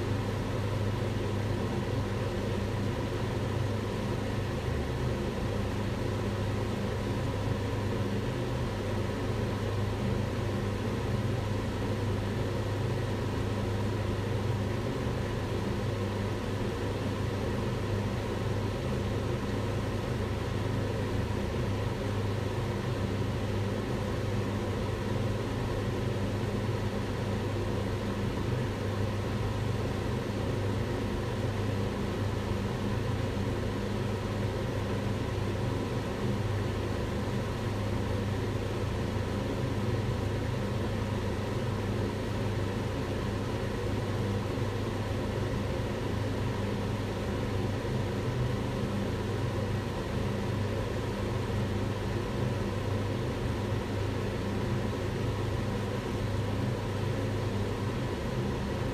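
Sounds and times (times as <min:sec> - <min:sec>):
range hood fan running: 0:00.0 - 0:58.9.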